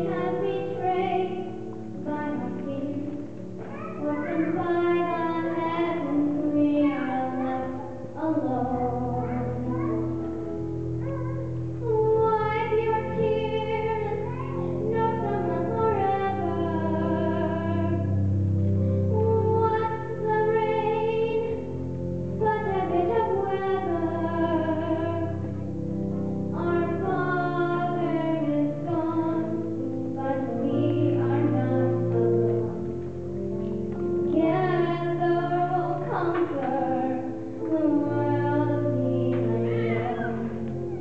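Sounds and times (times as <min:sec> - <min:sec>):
girl singing into microphone: 0:00.0 - 0:25.7, 0:26.5 - 0:41.0
piano accompaniment: 0:00.0 - 0:41.0.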